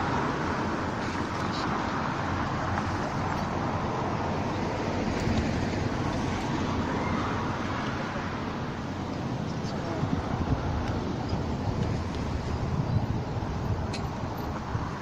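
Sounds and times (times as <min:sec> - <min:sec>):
steady outdoor rumble: 0:00.0 - 0:15.0
wind buffeting microphone: 0:00.0 - 0:15.0.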